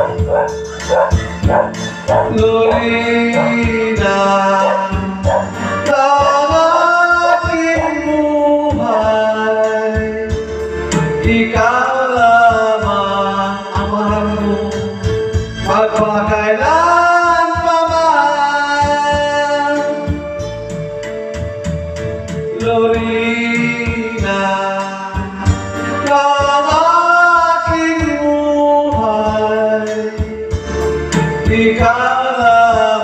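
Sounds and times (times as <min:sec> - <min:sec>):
man singing a ballad: 0:00.0 - 0:21.6, 0:22.2 - 0:33.0
karaoke backing track: 0:00.0 - 0:33.0.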